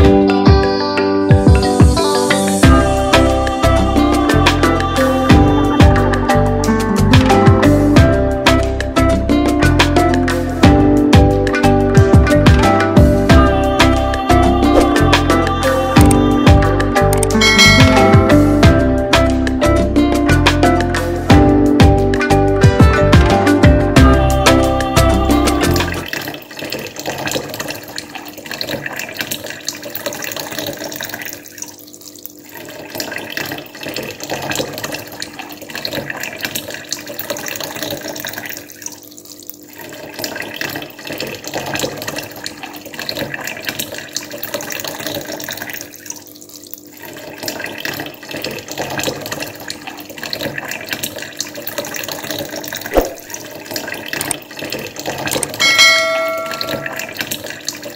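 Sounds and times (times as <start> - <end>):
water trickling in fountain: 2.8 - 21.4, 25.1 - 57.9.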